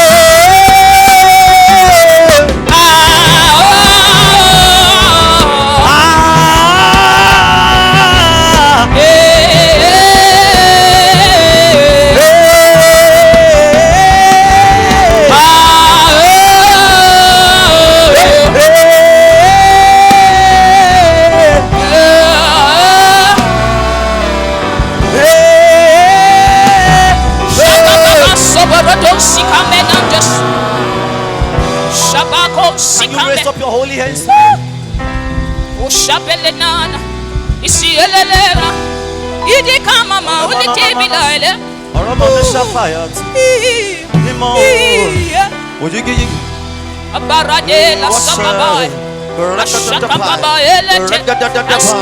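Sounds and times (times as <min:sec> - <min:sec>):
person singing long sliding notes: 0:00.0 - 0:33.6, 0:37.6 - 0:52.0
church band playing: 0:00.0 - 0:52.0.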